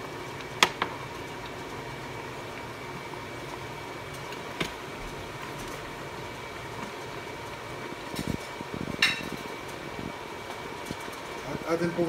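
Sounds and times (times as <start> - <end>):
pot bubbling: 0.0 - 12.0.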